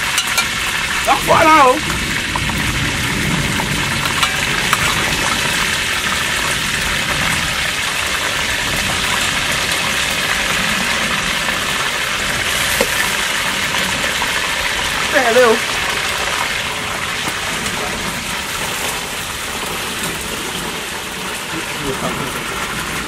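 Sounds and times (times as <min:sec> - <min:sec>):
chicken deep-frying in oil: 0:00.0 - 0:23.0.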